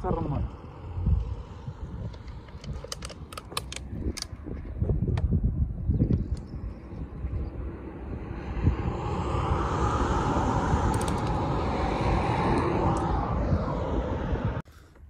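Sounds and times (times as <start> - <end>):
wind and road noise on motorcycle: 0.0 - 15.0.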